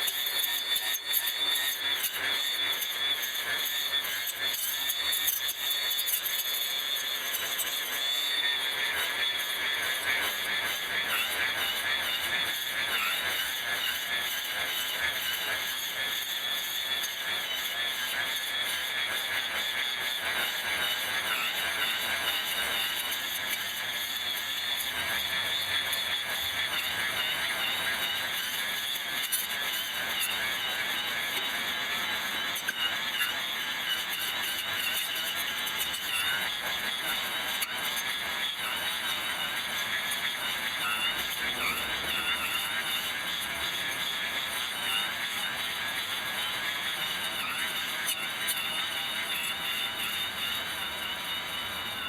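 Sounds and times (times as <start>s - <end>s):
high-pitched motor squeal: 0.0s - 52.0s.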